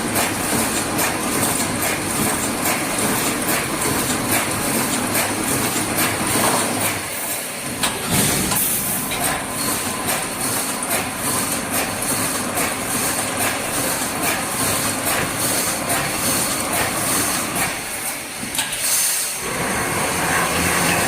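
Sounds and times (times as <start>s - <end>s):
machine clacking: 0.0s - 18.8s.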